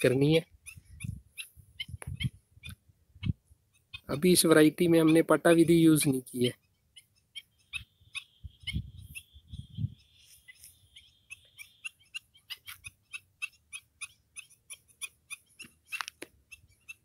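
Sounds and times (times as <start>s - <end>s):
small animal clicking calls: 0.1s - 9.4s, 10.0s - 17.0s.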